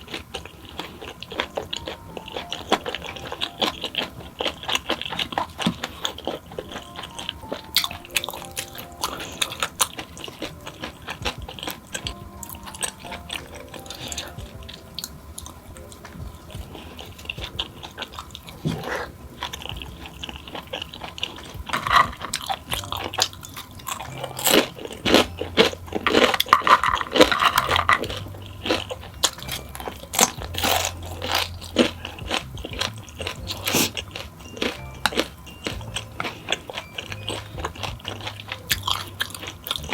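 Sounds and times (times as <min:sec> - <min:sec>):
crunchy snacks being chewed: 0:00.0 - 0:39.9
quiet background music: 0:00.0 - 0:39.9.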